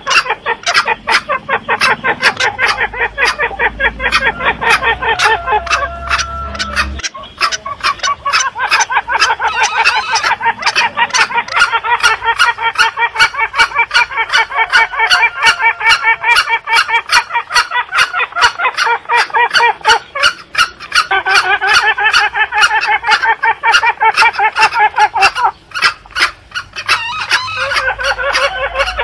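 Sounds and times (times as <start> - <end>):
junglefowl rapid calls: 0.0 - 29.0.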